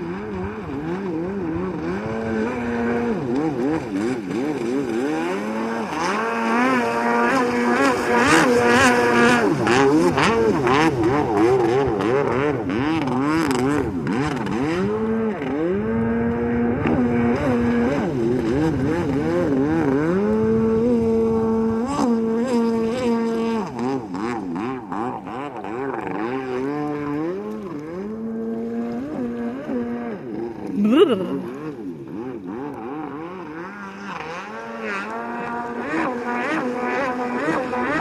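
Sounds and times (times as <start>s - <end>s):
engine revving: 0.0s - 30.7s, 31.4s - 38.0s.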